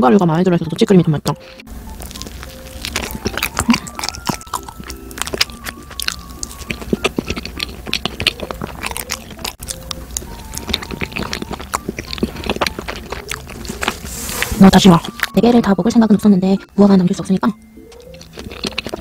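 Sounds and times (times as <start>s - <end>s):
soft background music: 0.0s - 19.0s
wet chewing clicks and crunches: 1.8s - 19.0s.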